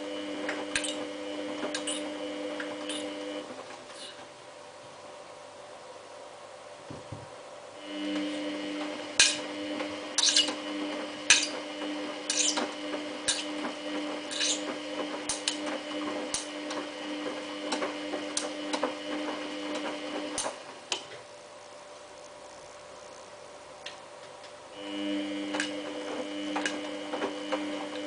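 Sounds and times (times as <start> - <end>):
washing machine motor humming: 0.0 - 5.0, 6.8 - 28.0.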